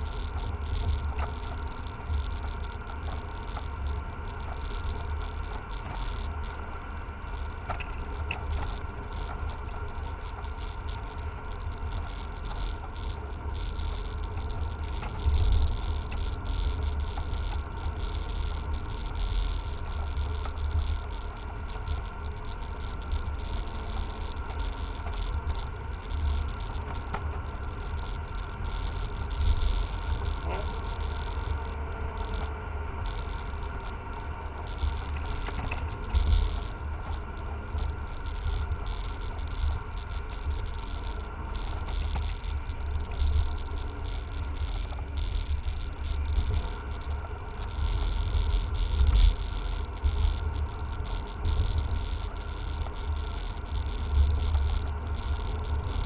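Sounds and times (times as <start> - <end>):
car cabin road rumble: 0.0 - 56.0.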